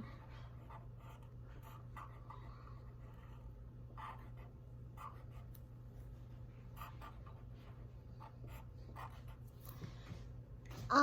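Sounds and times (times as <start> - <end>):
pencil scratching on paper: 0.0 - 9.8
faint low hum: 0.0 - 11.0.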